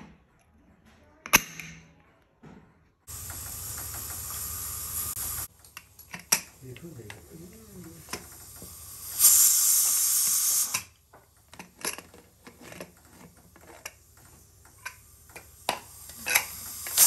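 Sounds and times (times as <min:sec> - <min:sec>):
steam hissing from pressure cooker: 0:03.1 - 0:17.0.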